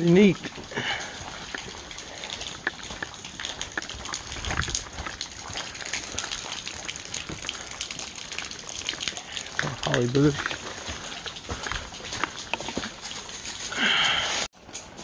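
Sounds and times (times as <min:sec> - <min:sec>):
footsteps rustling through wet leaves: 0:00.0 - 0:14.5.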